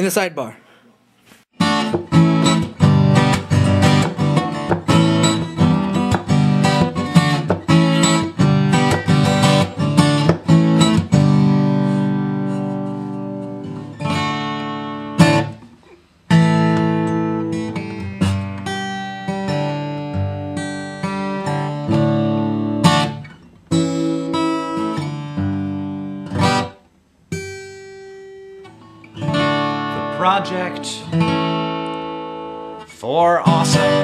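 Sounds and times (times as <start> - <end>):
acoustic guitar strumming: 1.6 - 34.0.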